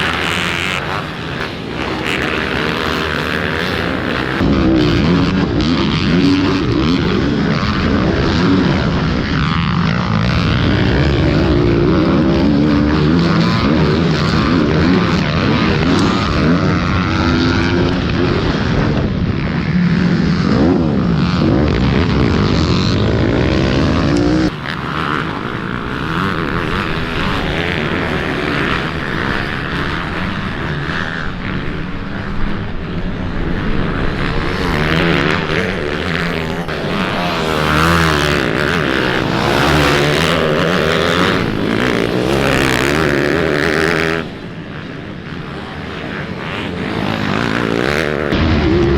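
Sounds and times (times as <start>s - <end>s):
motorbike engines revving: 0.0s - 48.9s.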